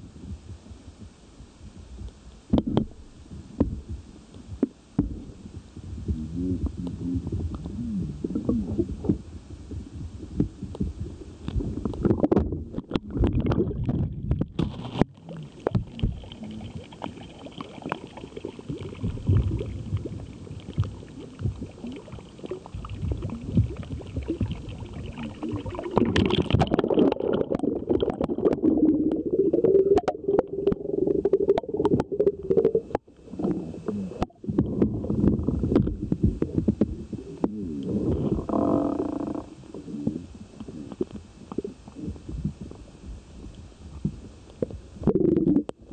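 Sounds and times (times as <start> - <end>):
underwater rumbling and sloshing: 0.0 - 45.9.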